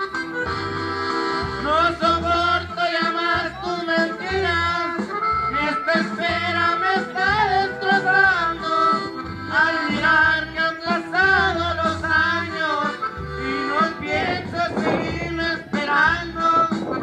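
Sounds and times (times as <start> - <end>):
accordion: 0.0 - 17.0
pulsing bass notes: 0.0 - 17.0
man singing: 1.6 - 17.0.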